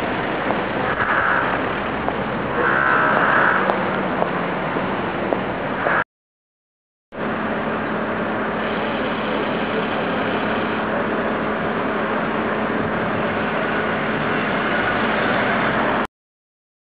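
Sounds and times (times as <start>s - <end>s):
city street noise: 0.0s - 6.0s, 7.1s - 16.1s
engine idling: 0.0s - 6.0s, 7.2s - 16.1s.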